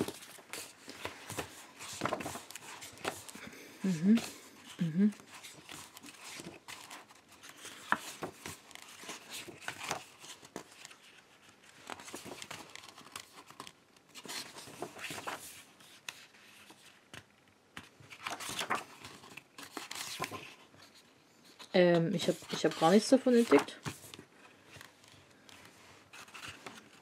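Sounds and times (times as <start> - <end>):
book pages turning: 0.0 - 27.0.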